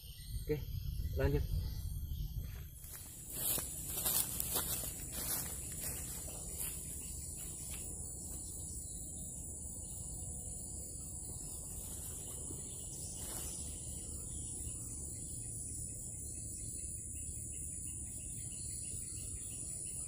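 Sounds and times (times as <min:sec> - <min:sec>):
low background rumble: 0:00.0 - 0:19.5
insects buzzing: 0:00.0 - 0:20.0.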